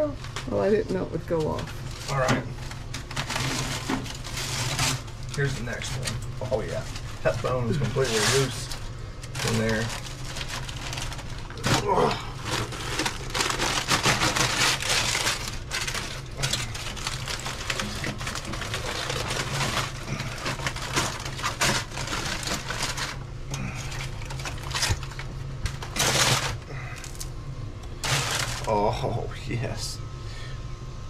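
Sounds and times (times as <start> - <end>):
aluminium foil crinkling: 0.0 - 29.1.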